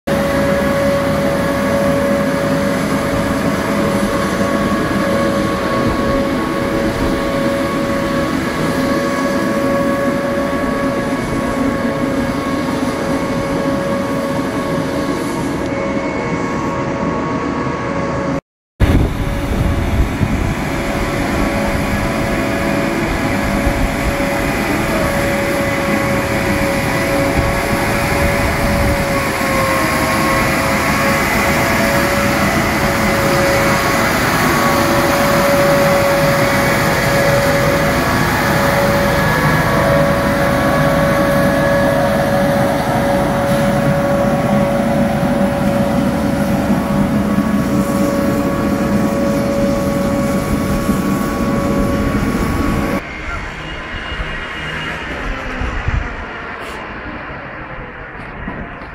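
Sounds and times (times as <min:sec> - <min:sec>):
loud mechanical drone: 0:00.1 - 0:58.9
steady high whine: 0:00.1 - 0:58.9.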